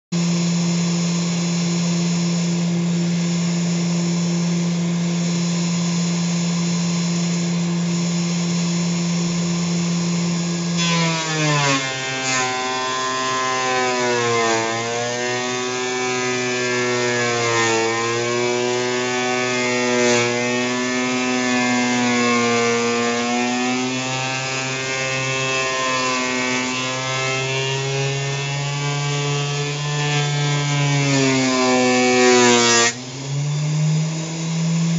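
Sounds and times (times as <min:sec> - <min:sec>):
planer cutting wood: 0:00.2 - 0:34.9
thickness planer whining: 0:00.2 - 0:34.9.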